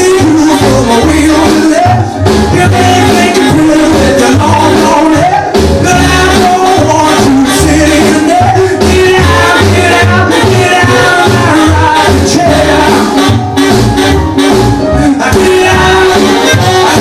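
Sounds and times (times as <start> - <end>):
vintage rock and roll music: 0.0 - 17.0.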